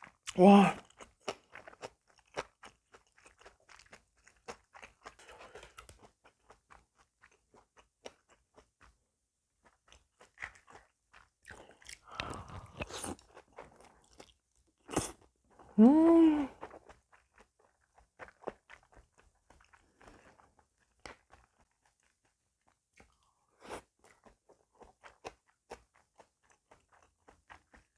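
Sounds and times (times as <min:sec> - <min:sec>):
chewing with wet mouth clicks: 0:00.0 - 0:09.0, 0:09.6 - 0:15.3, 0:16.6 - 0:27.9
food crunching: 0:00.0 - 0:09.0, 0:09.6 - 0:15.7, 0:16.6 - 0:27.9.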